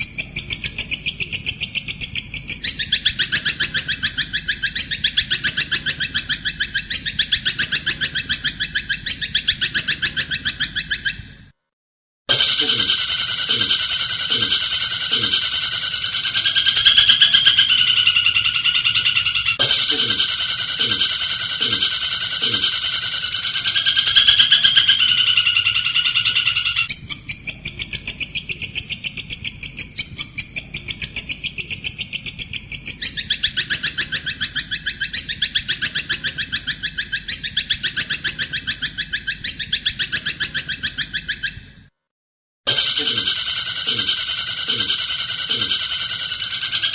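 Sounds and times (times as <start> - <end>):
rapid pulsed bird trill: 0.0 - 11.3, 12.3 - 41.6, 42.7 - 46.9
recorded songbird chirping: 0.0 - 11.6, 12.3 - 41.9, 42.7 - 46.9.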